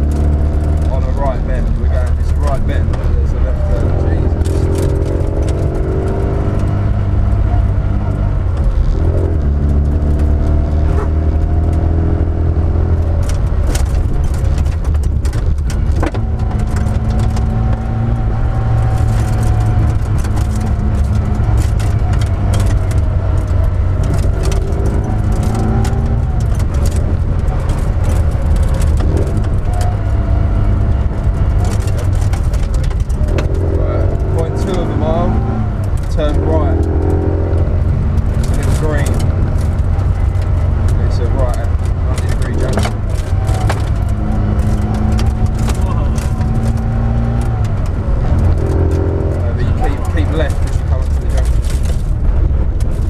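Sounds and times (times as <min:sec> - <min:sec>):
car engine revving hard: 0:00.0 - 0:53.0.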